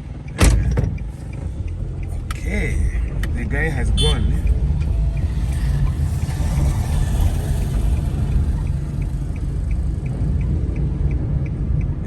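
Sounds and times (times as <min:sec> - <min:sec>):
car engine and road rumble: 0:00.0 - 0:12.0
faint regular ticking: 0:00.0 - 0:12.0.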